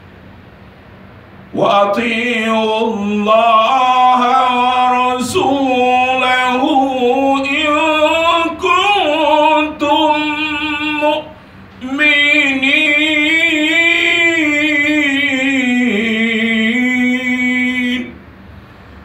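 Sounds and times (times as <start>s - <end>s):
man chanting melodic recitation: 1.6s - 18.1s.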